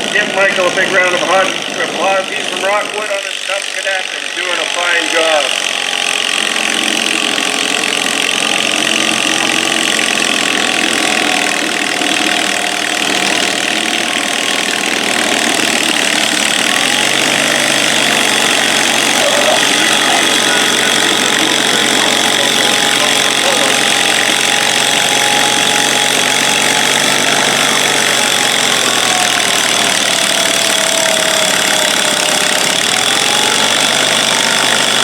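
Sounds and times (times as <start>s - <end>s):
garden tractor engine running: 0.0s - 35.0s.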